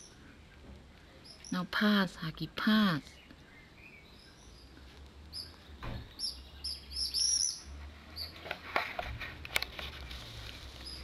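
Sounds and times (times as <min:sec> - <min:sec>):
songbird chirping: 0:00.0 - 0:08.8, 0:10.3 - 0:11.0.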